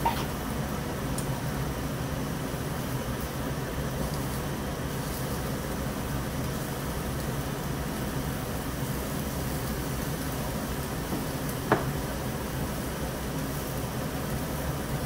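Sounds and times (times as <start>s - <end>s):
ventilation whooshing hum: 0.0s - 15.0s.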